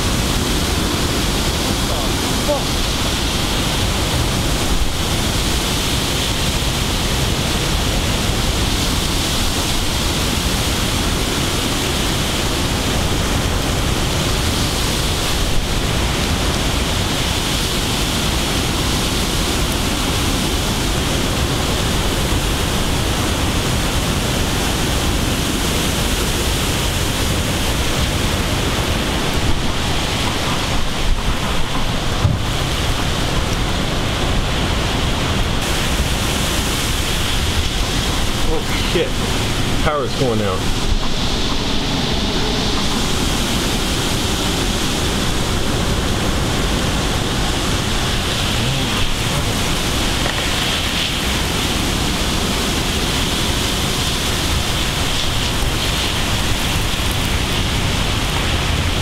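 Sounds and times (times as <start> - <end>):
torrential rain: 0.0 - 59.0.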